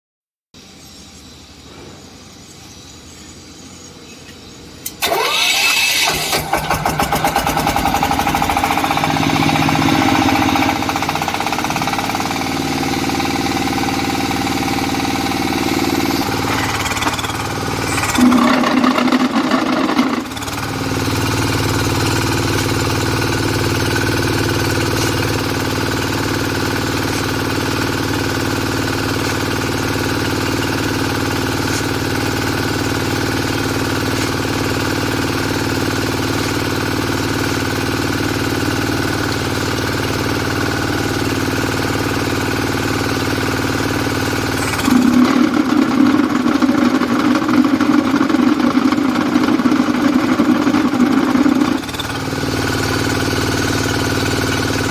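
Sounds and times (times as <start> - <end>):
diesel engine running: 4.9 - 54.9.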